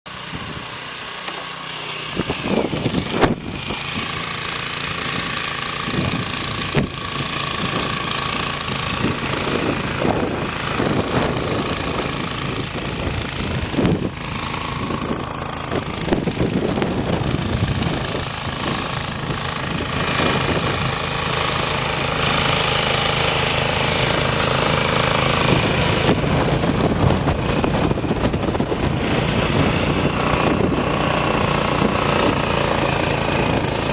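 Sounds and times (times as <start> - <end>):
small engine running roughly: 0.1 - 33.9.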